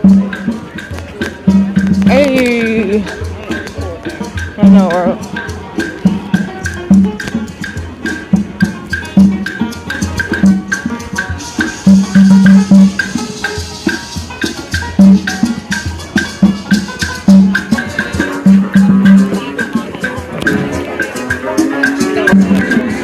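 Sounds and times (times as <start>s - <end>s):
upbeat music with drums and bass: 0.0s - 23.0s.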